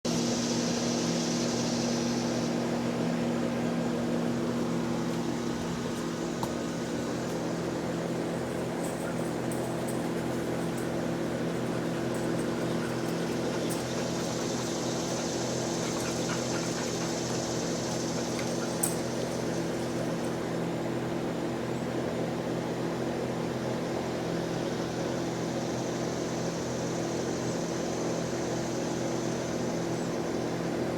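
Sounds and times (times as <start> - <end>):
air conditioner humming: 0.1 - 30.9.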